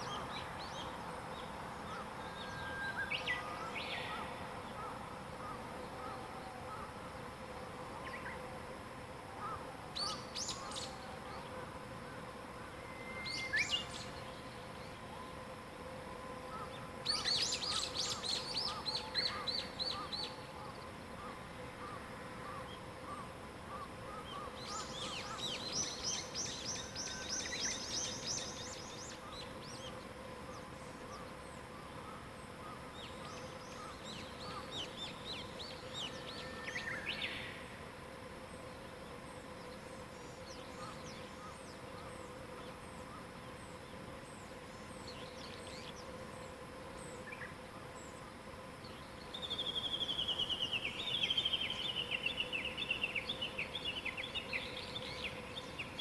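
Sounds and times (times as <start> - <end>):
songbirds singing: 0.0 - 8.6, 9.4 - 15.5, 16.1 - 56.0
faint steady hum: 0.0 - 56.0.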